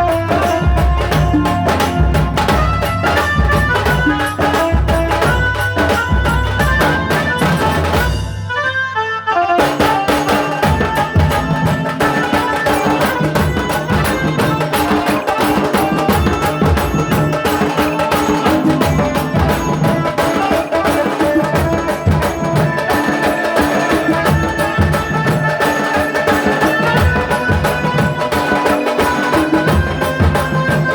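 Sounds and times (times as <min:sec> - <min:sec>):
drums beaten in fast strokes: 0:00.0 - 0:08.5, 0:09.6 - 0:30.9
melody of held notes: 0:00.0 - 0:30.9.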